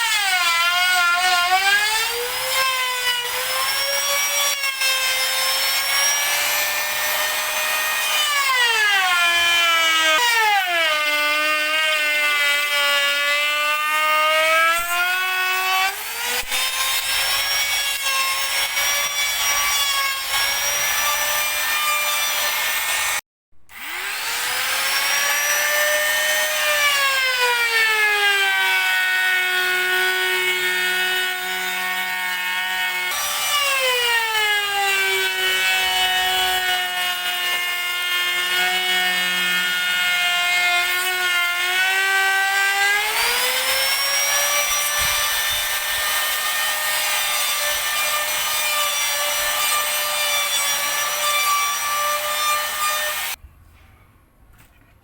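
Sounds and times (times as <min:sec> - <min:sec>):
power tool whining cutting wood: 0:00.0 - 0:53.4.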